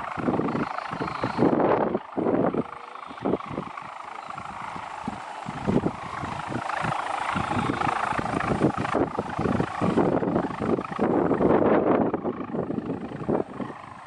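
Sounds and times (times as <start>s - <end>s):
kite hummer droning in wind: 0.0s - 14.0s.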